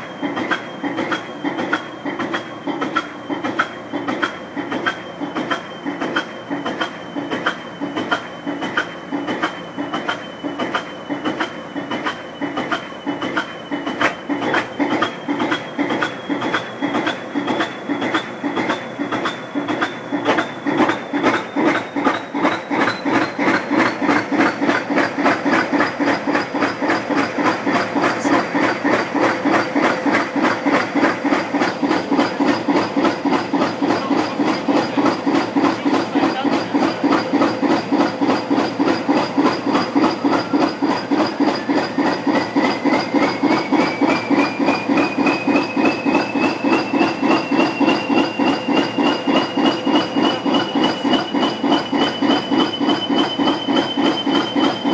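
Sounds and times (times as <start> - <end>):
diesel locomotive engine running: 0.0 - 54.9
high engine whine: 0.0 - 54.9.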